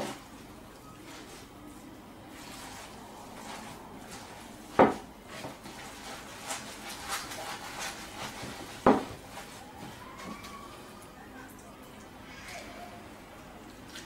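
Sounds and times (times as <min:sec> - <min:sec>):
hands mixing in glass bowl: 0:00.0 - 0:11.8.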